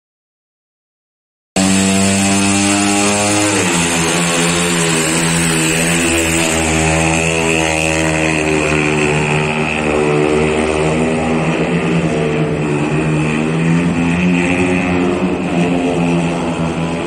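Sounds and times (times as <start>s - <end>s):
motorcycle engine running hard: 1.6s - 17.0s.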